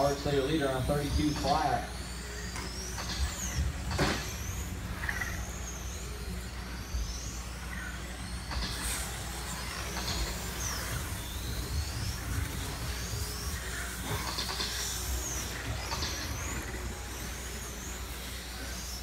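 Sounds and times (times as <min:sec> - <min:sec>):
rc car motors whining: 0:00.0 - 0:19.0
steady low hum: 0:00.0 - 0:19.0.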